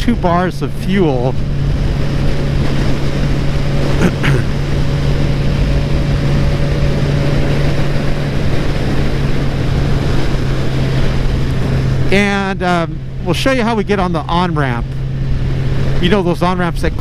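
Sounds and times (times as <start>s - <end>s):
motorcycle engine cruising: 0.0s - 17.0s
wind and road rush: 0.0s - 17.0s.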